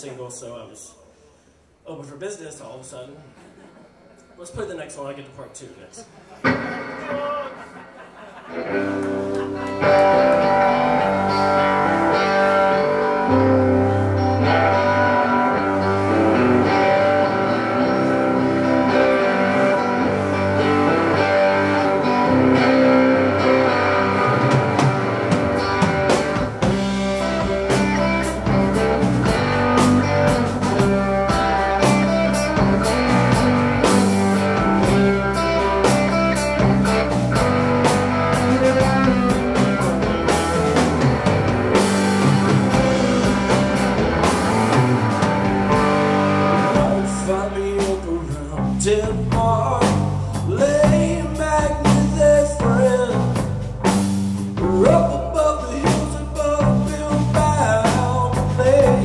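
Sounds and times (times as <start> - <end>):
live rock band playing: 6.2 - 59.0
drum kit: 6.4 - 59.0
guitar and bass: 6.4 - 59.0.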